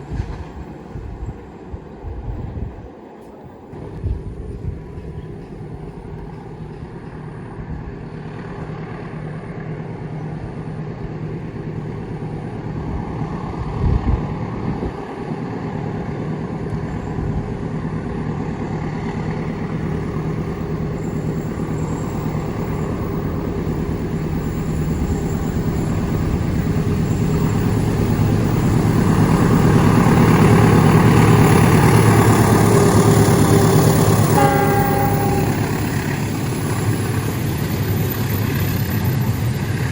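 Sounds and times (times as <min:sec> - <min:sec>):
diesel locomotive engine hum: 0:00.0 - 0:39.9.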